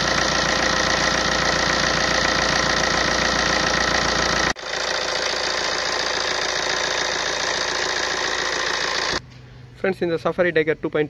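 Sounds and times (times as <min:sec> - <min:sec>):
diesel engine idling with clatter: 0:00.0 - 0:09.2.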